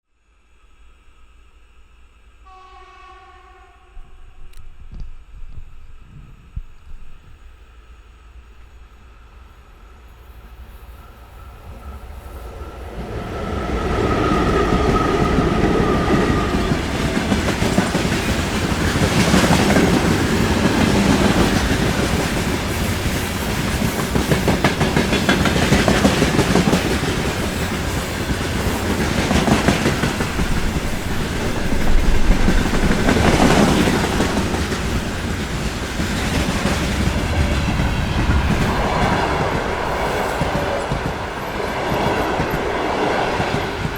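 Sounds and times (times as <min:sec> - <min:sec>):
freight train rumbling past: 0:00.6 - 0:43.9.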